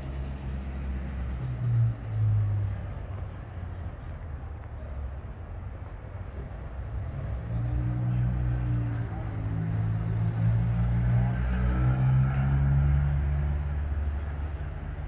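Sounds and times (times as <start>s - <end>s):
street traffic noise: 0.0s - 15.0s
vehicle engine humming nearby: 0.0s - 15.0s.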